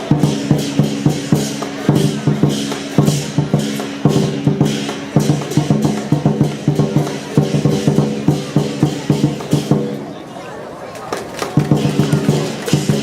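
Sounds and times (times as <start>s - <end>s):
drum beaten quickly: 0.0s - 10.1s, 11.4s - 13.0s.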